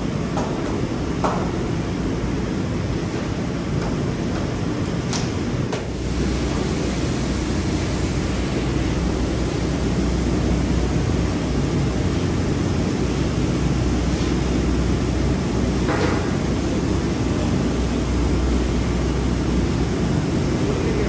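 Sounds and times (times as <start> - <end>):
gas burner roaring: 0.0 - 21.0.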